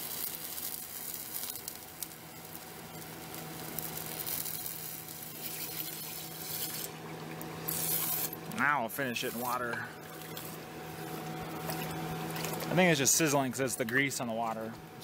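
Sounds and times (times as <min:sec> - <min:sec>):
hot metal sizzling in water: 0:00.0 - 0:13.8.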